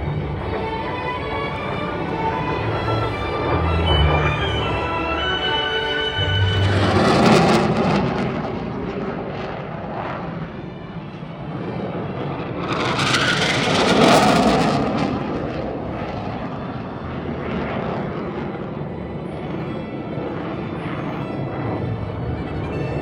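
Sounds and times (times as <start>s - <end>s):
jet aircraft flying past: 0.0s - 23.0s.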